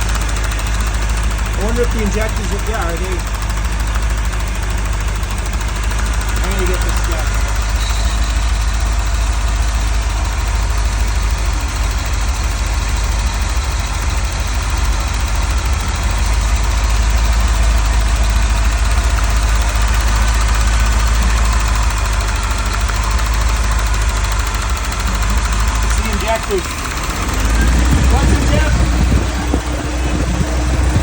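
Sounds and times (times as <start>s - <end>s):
rough engine idling with hammering: 0.0s - 31.0s.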